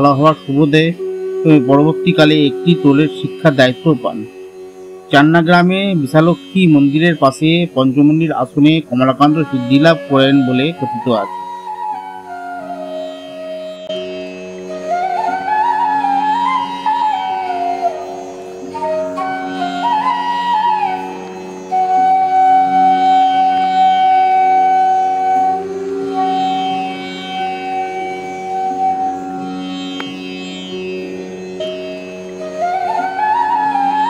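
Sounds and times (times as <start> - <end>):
gliding melody over a drone: 0.0 - 34.0.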